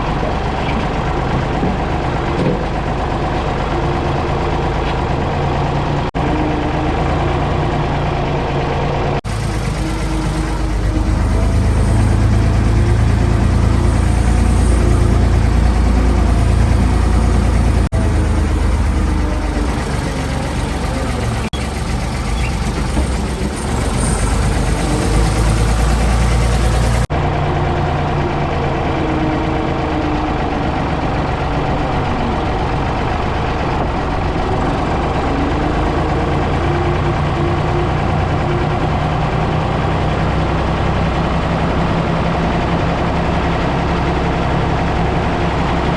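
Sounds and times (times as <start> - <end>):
backhoe engine running: 0.0 - 45.9.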